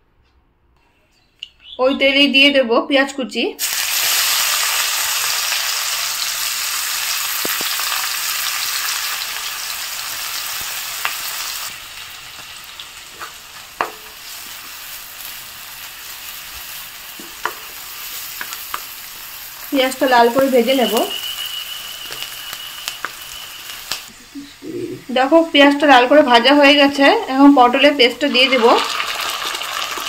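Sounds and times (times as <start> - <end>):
onions sizzling in oil: 3.6 - 30.0.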